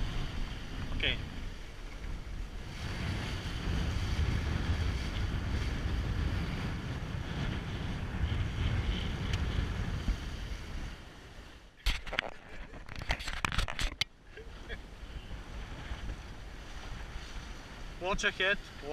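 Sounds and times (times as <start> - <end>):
water splashing along hull: 0.0 - 18.9
wind buffeting microphone: 0.0 - 18.9.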